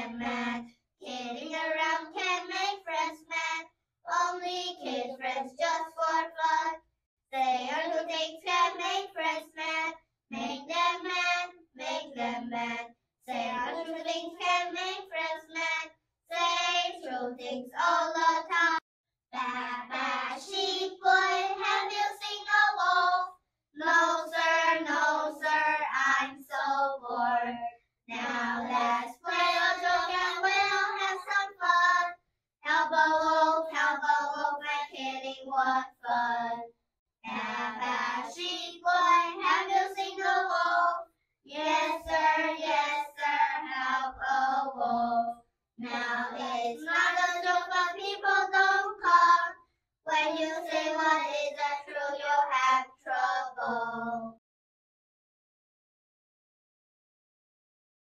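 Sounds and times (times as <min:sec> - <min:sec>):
children singing: 0:00.0 - 0:06.8, 0:07.4 - 0:18.8, 0:19.4 - 0:36.6, 0:37.2 - 0:54.3.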